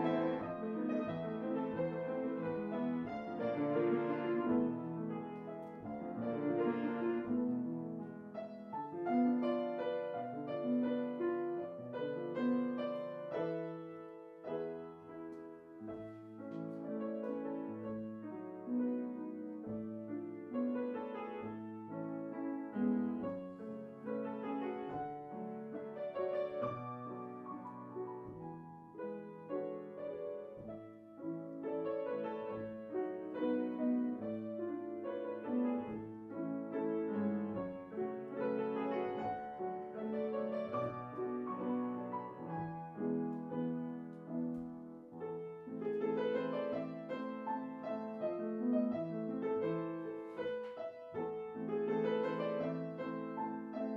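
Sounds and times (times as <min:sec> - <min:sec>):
grand piano playing: 0:00.0 - 0:53.9.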